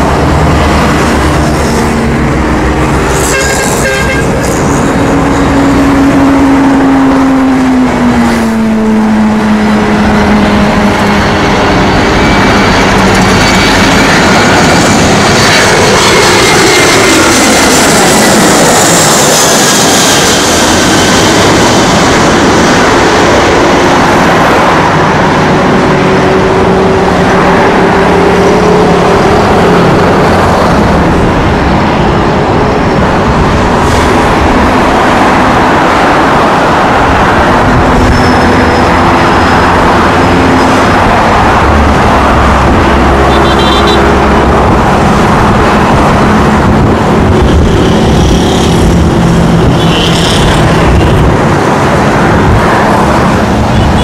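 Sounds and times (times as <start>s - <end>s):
jet airliner passing overhead: 0.0s - 54.0s
road traffic rumble: 0.0s - 54.0s.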